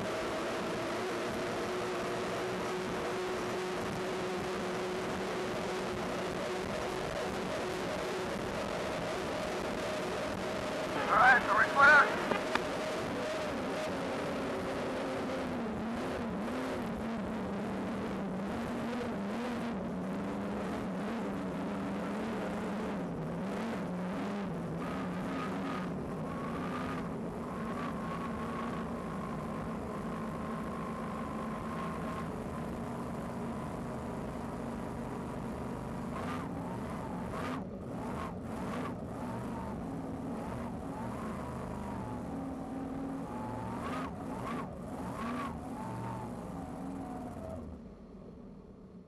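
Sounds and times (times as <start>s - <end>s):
boat engine drone and whine: 0.0s - 49.0s.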